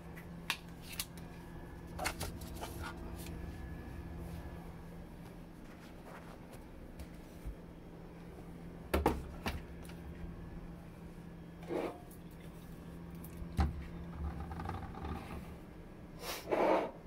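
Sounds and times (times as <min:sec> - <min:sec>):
refrigerator low hum: 0:00.0 - 0:17.0.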